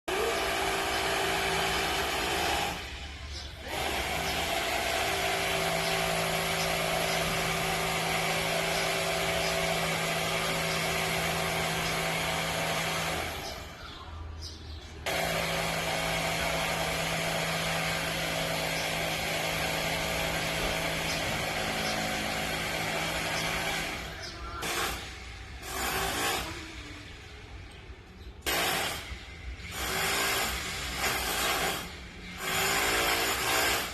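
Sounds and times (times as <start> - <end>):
electric rotary hammer running: 0.1 - 13.8, 15.0 - 27.4, 28.4 - 33.9.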